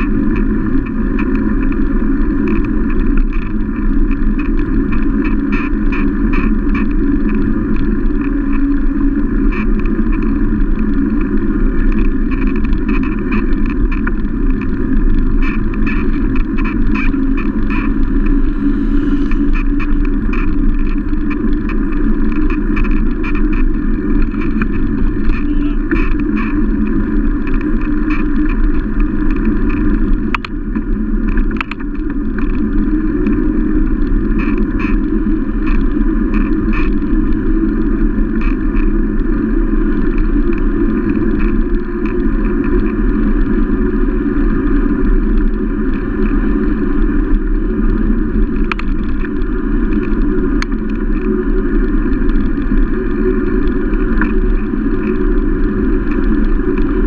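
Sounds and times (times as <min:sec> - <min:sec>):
tyres rumbling on asphalt: 0:00.0 - 0:57.0
wind buffeting microphone: 0:00.0 - 0:57.0.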